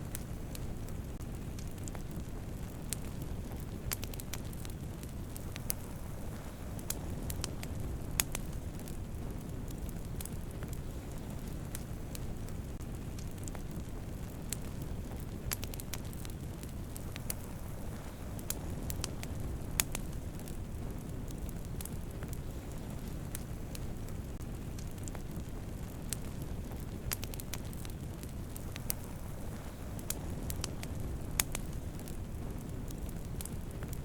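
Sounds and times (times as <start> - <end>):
campfire flames rumbling: 0.0 - 34.0
fire popping and crackling: 0.0 - 34.0.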